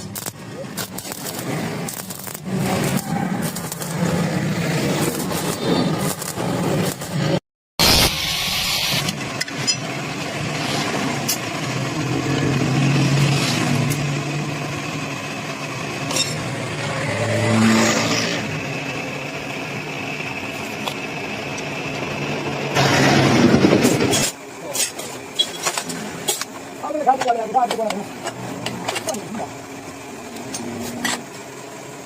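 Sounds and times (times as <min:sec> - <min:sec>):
engine running with low hum: 0:00.0 - 0:07.4, 0:08.1 - 0:32.0.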